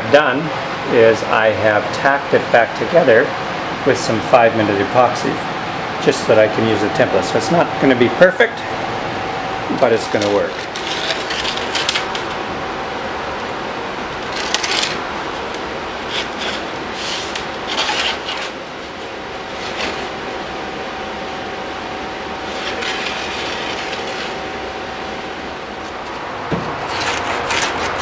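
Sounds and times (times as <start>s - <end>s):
shop hum: 0.0s - 28.0s.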